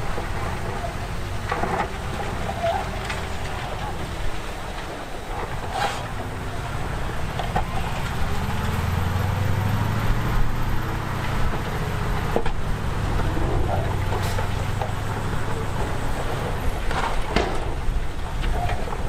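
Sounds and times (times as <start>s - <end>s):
heavy diesel engine under load: 0.0s - 19.0s.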